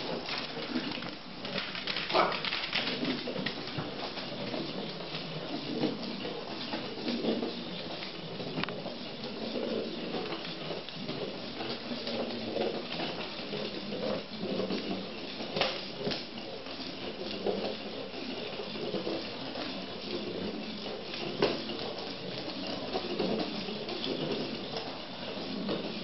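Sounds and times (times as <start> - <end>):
ball rattling on wooden floor: 0.0 - 26.0.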